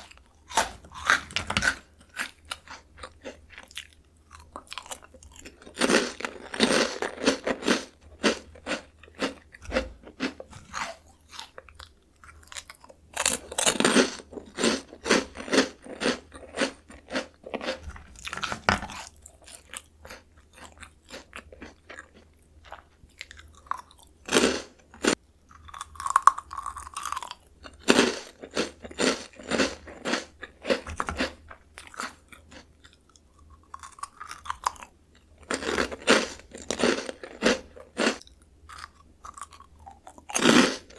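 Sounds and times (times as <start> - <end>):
crunching and chewing crispy snack: 0.0 - 40.9.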